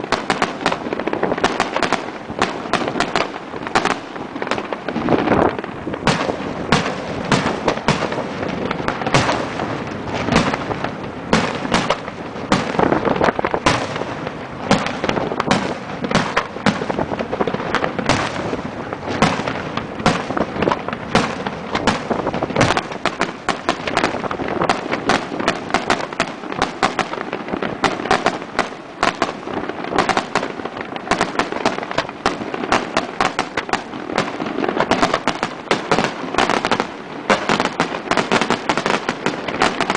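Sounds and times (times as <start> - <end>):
fireworks bursting in loud bangs: 0.0 - 39.9.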